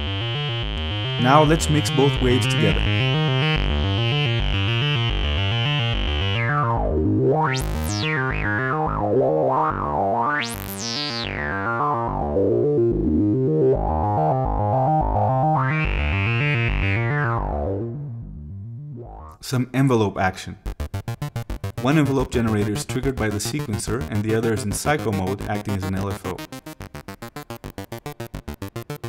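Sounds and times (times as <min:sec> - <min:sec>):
synthesizer bass line: 0:00.0 - 0:19.4, 0:20.7 - 0:29.0.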